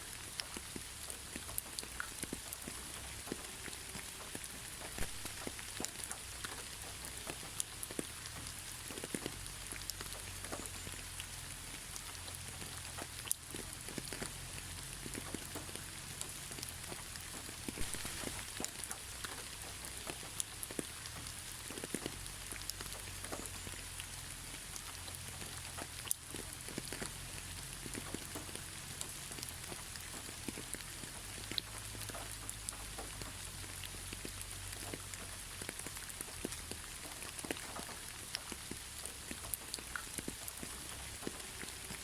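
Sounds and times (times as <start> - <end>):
gentle rain hissing: 0.0 - 42.0
raindrops tapping: 0.0 - 42.0.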